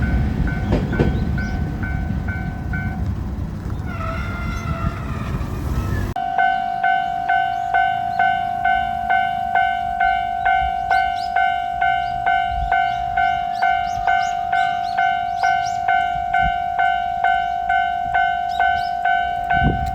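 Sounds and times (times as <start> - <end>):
level crossing warning bell: 0.0 - 19.9.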